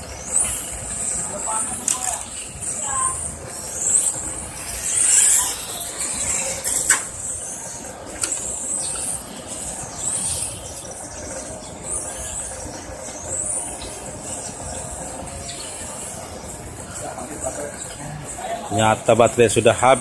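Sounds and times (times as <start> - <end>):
electric model car motors whining: 0.0 - 20.0.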